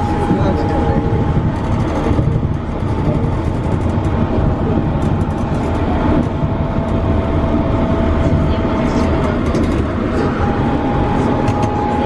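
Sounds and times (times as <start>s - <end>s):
train motor whine: 0.0s - 12.0s
train rumbling: 0.0s - 12.0s.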